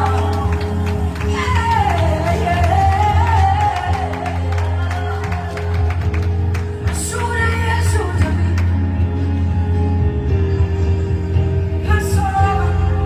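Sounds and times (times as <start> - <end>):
gospel worship song: 0.0 - 10.0, 11.7 - 13.0.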